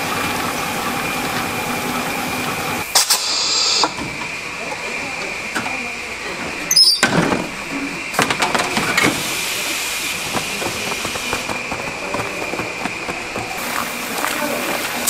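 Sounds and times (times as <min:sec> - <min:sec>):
factory machinery whining: 0:00.0 - 0:15.0.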